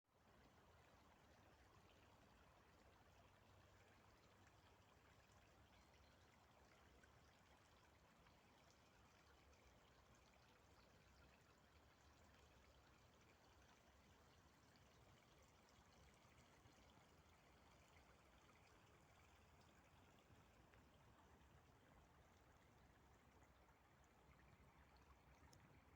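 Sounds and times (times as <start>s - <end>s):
faint running water: 0.1s - 25.9s.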